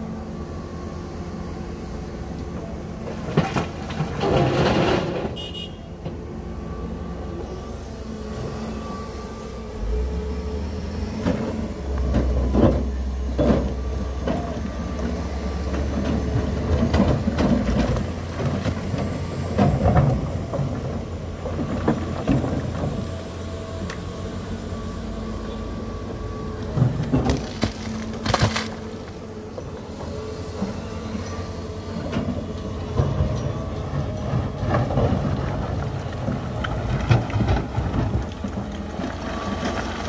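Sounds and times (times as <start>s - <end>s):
excavator diesel engine: 0.0s - 40.0s.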